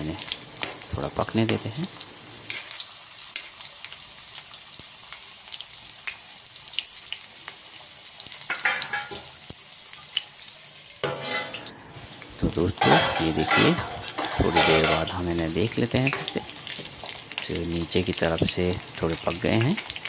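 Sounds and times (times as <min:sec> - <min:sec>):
oil sizzling with crackles: 0:00.0 - 0:20.0.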